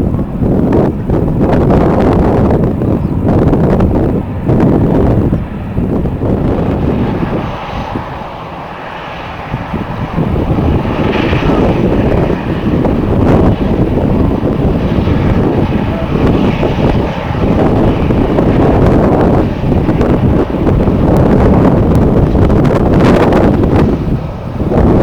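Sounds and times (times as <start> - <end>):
jet airliner engine: 0.0 - 25.0
wind buffeting microphone: 0.0 - 25.0.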